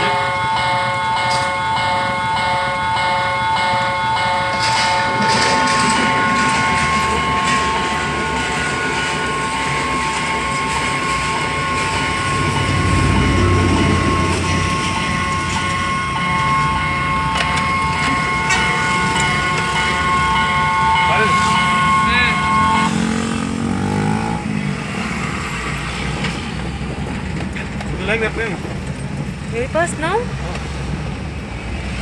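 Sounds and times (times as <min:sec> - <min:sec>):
passenger train rumble: 0:00.0 - 0:32.0
wheels clattering over rails: 0:03.0 - 0:31.2.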